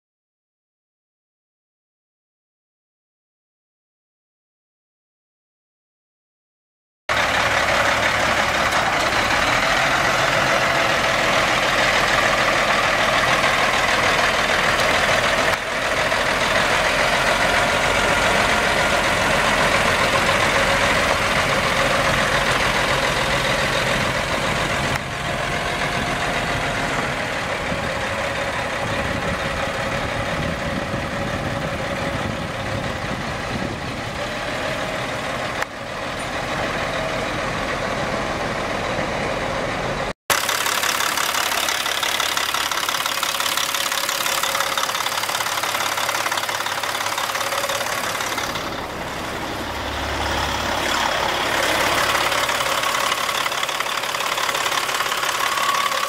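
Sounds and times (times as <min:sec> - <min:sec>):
diesel truck engine idling: 0:07.1 - 0:56.0.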